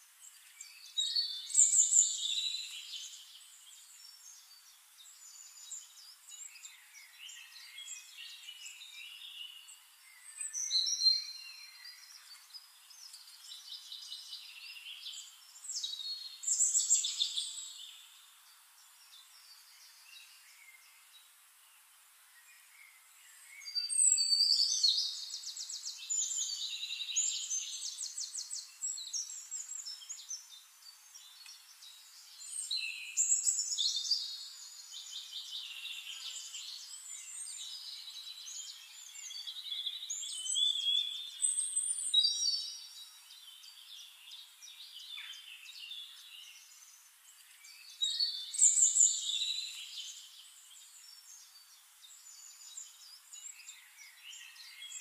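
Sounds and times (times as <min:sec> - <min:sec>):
small birds singing and trilling: 0:00.0 - 0:55.0.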